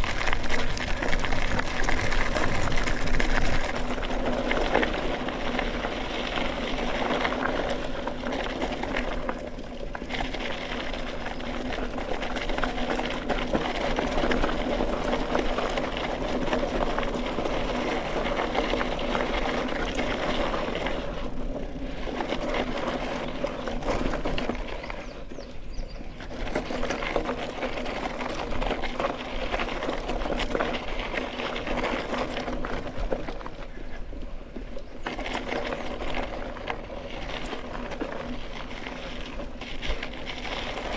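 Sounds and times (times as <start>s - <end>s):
bike tyres rattling on gravel: 0.0s - 40.9s.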